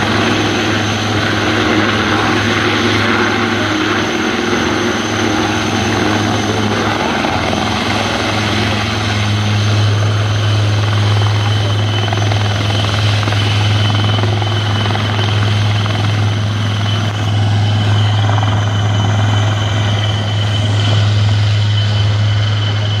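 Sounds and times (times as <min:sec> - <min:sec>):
helicopter hovering: 0:00.0 - 0:23.0.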